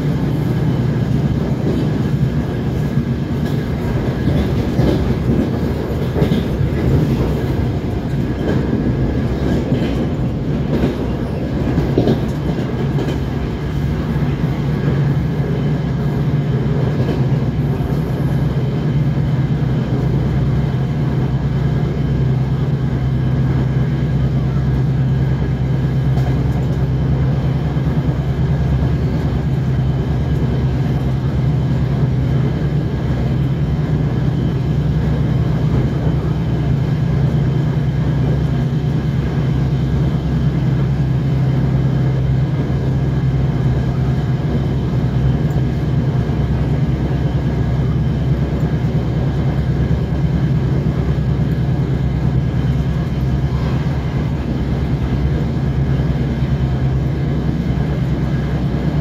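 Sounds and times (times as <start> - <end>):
diesel engine drone: 0.0 - 59.0
wheels rumbling on rails: 0.0 - 59.0.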